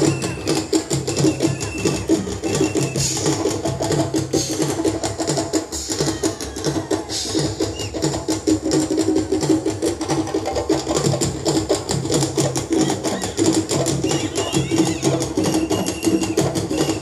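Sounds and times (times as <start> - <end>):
djembe strokes: 0.0 - 17.0.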